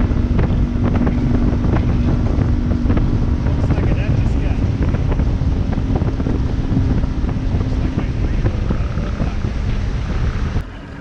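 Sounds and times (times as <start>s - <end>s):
boat motor running: 0.0s - 11.0s
wind buffeting microphone: 0.0s - 11.0s.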